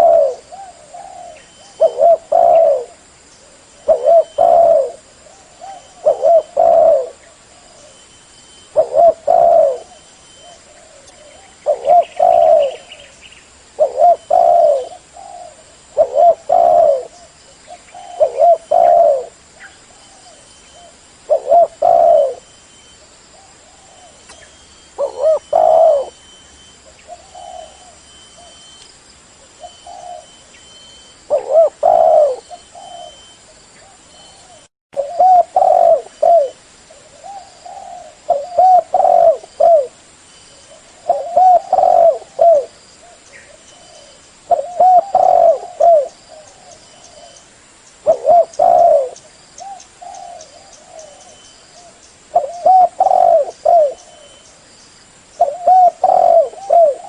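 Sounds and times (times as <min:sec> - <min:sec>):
dove cooing: 0:00.0 - 0:22.6, 0:23.3 - 0:28.8, 0:29.4 - 0:47.4, 0:48.0 - 0:54.5, 0:55.3 - 0:57.0.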